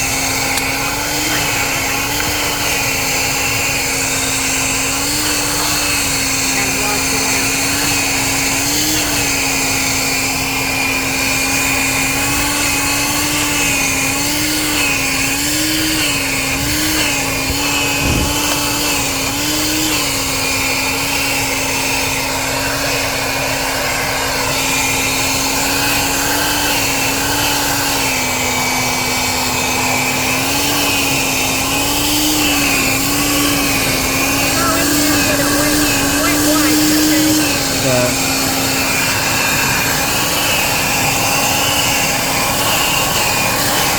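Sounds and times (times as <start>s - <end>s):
shop vac motor whining: 0.0s - 43.9s.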